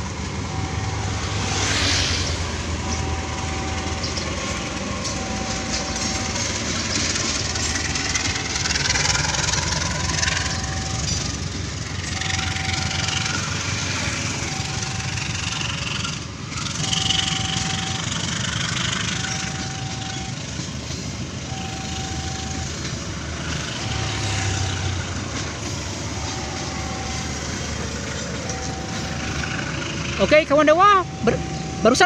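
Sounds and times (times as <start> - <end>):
level crossing warning tone: 0.0 - 32.0
train wheel and rail noise: 0.0 - 32.0.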